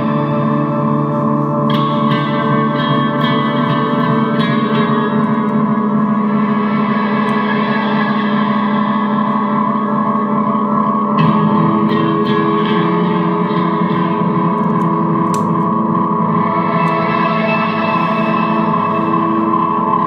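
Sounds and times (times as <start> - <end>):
guitar sustained chords: 0.0 - 20.0
picked guitar notes: 0.0 - 20.0.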